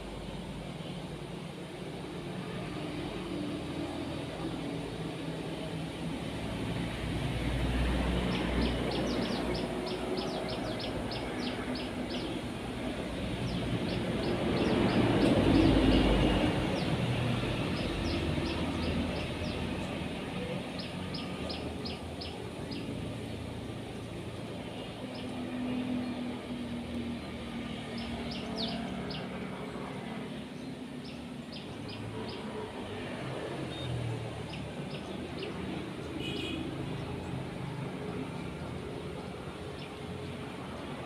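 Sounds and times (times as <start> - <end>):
passing vehicle rumble: 1.8 - 36.1.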